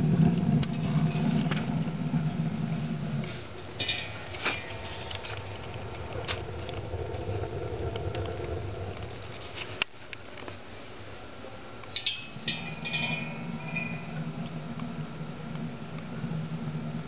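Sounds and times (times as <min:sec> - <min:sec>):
fire crackles: 0:00.0 - 0:11.2, 0:11.8 - 0:17.0
low rumble of fire draft: 0:00.0 - 0:17.0.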